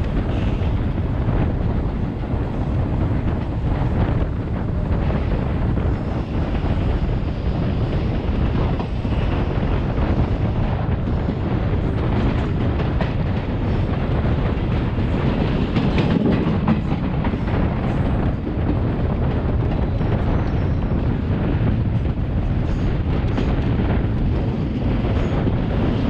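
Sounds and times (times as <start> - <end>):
train wheels rumbling on rails: 0.0 - 26.0
wind noise: 0.0 - 26.0.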